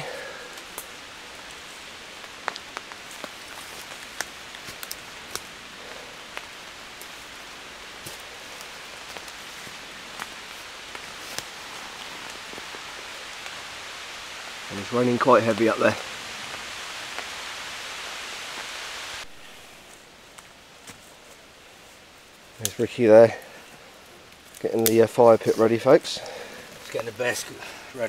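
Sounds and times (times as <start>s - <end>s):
sharp raindrops landing close: 0.0s - 27.7s
heavy rain on leaves: 0.0s - 28.0s.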